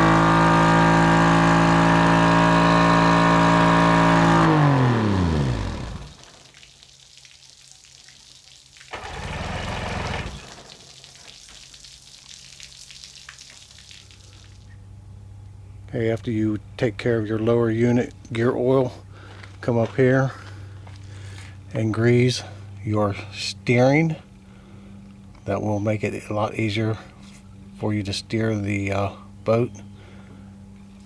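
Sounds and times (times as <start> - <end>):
outboard motor idling and winding down: 0.0 - 6.4, 8.9 - 10.8, 14.4 - 31.0.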